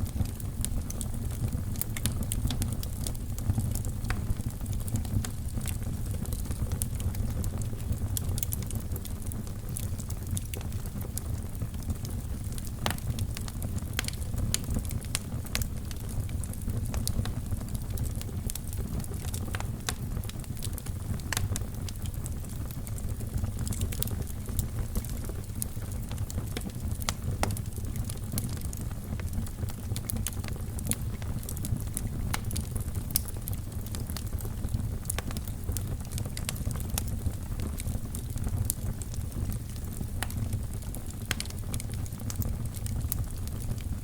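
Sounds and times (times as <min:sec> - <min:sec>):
fireplace fire crackling: 0:00.0 - 0:44.0.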